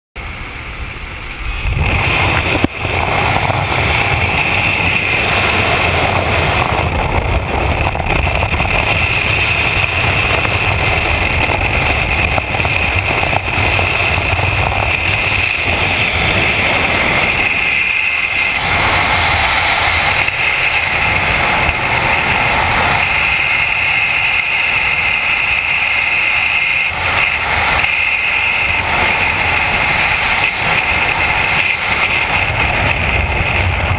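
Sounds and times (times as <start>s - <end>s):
loud wind rush: 0.2s - 33.9s
small plane engine and propeller: 0.2s - 33.9s.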